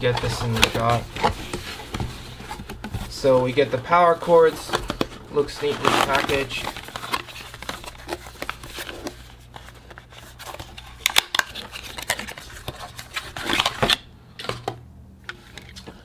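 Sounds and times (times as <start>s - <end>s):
cardboard packaging scraping and tapping: 0.0s - 14.7s.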